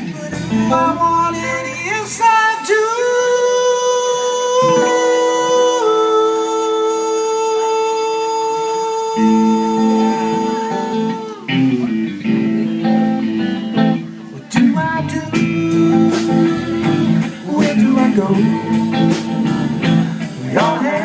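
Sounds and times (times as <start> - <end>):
blues band music: 0.0 - 7.4, 8.8 - 21.0.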